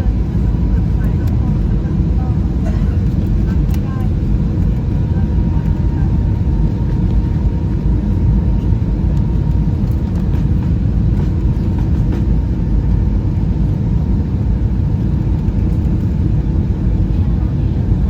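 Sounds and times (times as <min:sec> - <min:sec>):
aircraft cabin rumble: 0:00.0 - 0:18.0.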